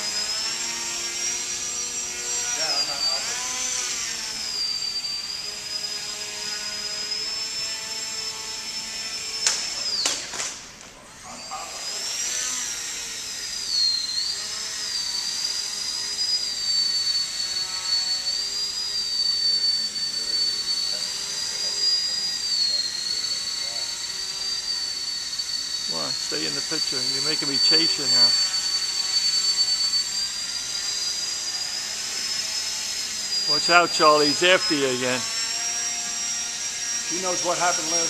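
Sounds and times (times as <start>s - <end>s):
electric motor and propeller whining: 0.0s - 38.0s.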